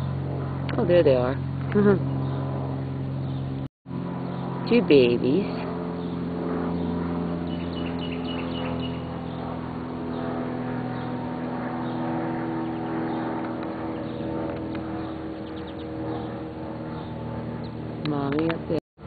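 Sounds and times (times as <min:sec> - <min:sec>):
motor humming: 0:00.0 - 0:18.6.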